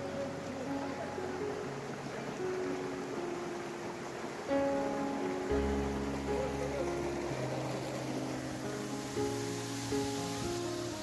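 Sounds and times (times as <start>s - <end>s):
background music of held notes: 0.0s - 11.0s.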